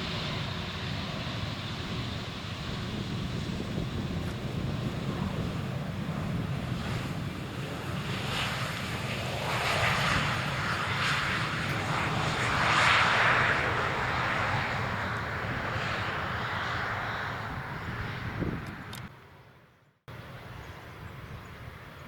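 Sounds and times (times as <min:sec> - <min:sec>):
jet engines rushing hiss: 0:00.0 - 0:22.0.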